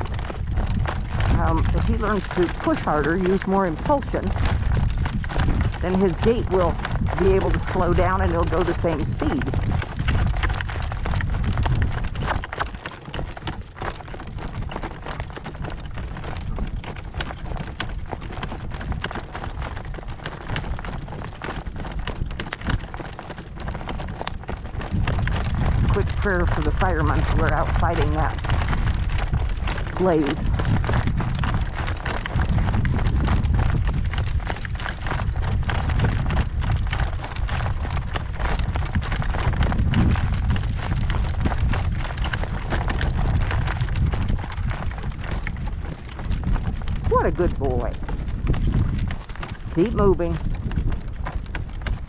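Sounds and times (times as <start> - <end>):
horse hoofbeats trotting: 0.0 - 52.0
wind buffeting microphone: 0.0 - 52.0.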